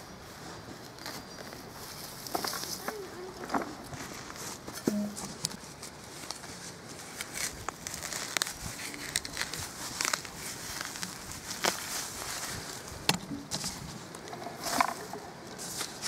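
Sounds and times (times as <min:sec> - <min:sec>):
grass and stems rustling: 0:00.2 - 0:16.0.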